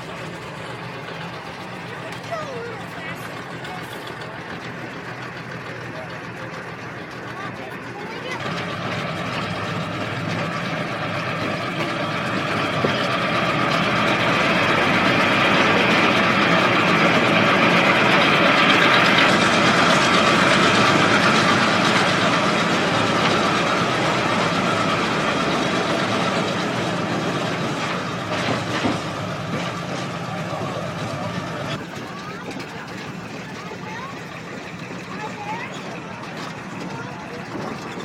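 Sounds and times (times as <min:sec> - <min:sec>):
train wheels rumbling and clattering: 0:00.0 - 0:38.0.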